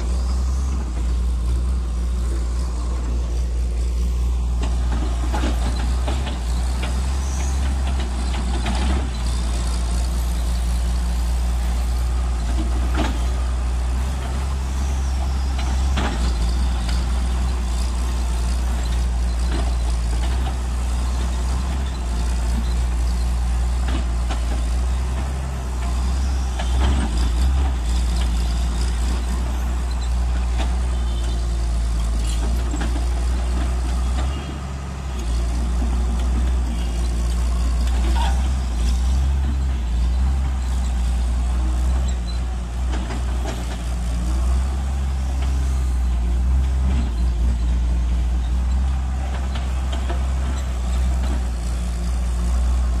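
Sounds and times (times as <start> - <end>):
excavator diesel engine droning: 0.0 - 53.0.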